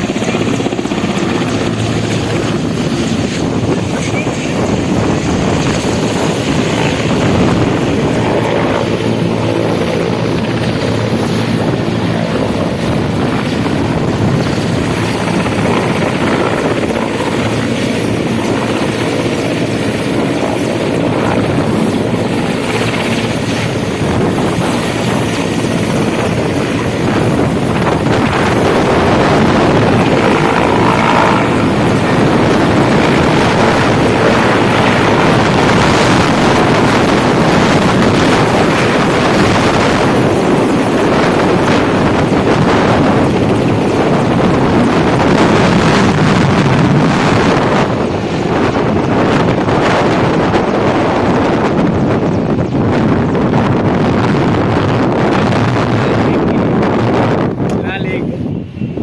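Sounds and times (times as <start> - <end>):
helicopter rotor and turbine: 0.0 - 59.0.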